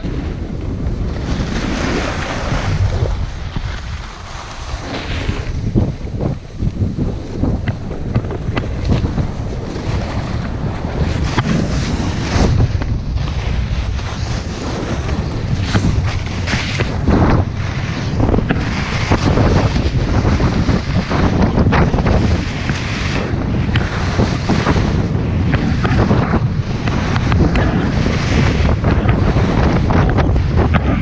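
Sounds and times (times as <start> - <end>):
skis carving across snow: 0.0 - 31.0
wind buffeting microphone: 0.0 - 31.0.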